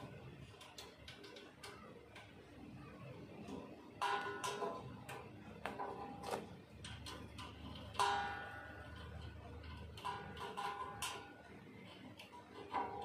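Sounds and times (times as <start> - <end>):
metallic clicks and knocks: 0.0 - 2.7, 3.3 - 13.0.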